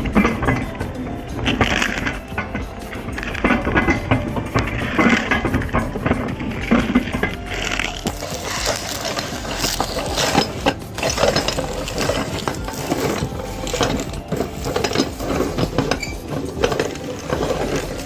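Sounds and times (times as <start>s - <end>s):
meat grinder crunching cones: 0.0s - 18.0s
ratchet-like mechanical clicking: 0.0s - 18.0s.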